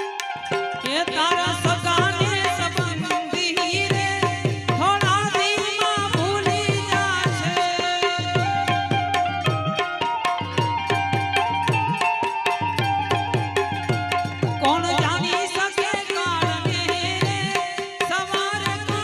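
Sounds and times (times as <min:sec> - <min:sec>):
tabla rhythm: 0:00.0 - 0:19.0.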